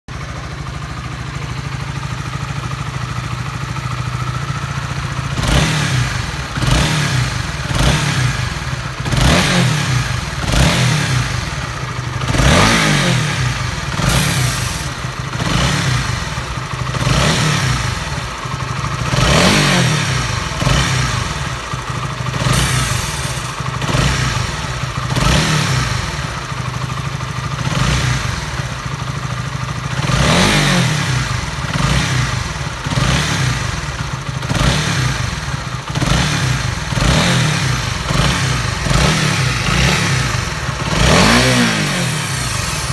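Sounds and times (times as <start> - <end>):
motorcycle engine idling and revving: 0.0 - 42.9
abnormal engine noise: 0.1 - 42.9.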